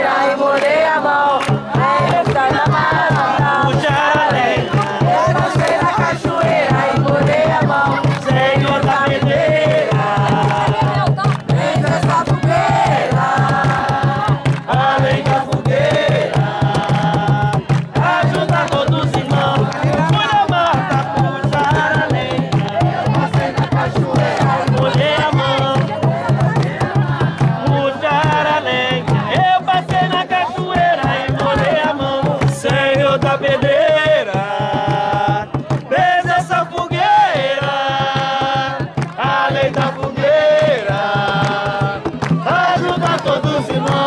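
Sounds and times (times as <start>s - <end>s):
voices singing a chant: 0.0s - 44.0s
hand drums drumming: 0.6s - 44.0s.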